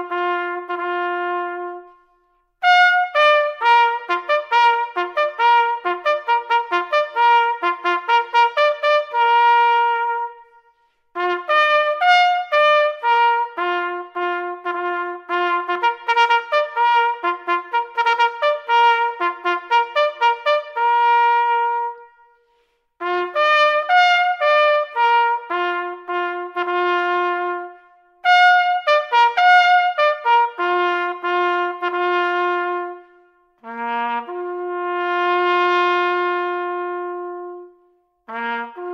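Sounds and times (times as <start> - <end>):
solo trumpet melody: 0.0 - 38.9.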